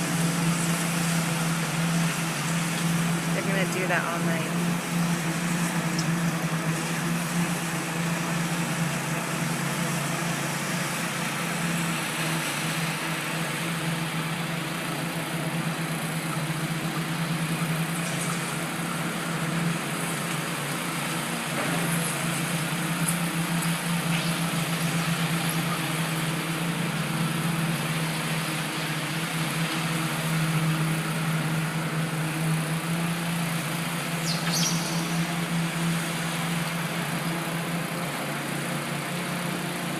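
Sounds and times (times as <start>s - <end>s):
machinery engine droning: 0.0s - 39.9s.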